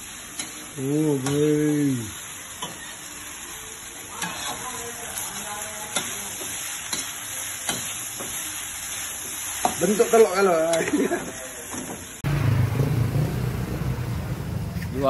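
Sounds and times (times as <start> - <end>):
rice sizzling in a wok: 0.0 - 12.4.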